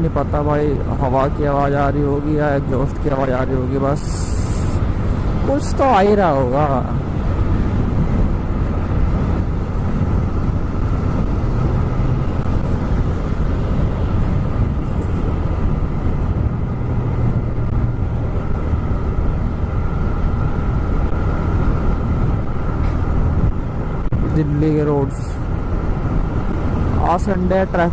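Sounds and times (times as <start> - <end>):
wind and road noise rumble: 0.0 - 27.9.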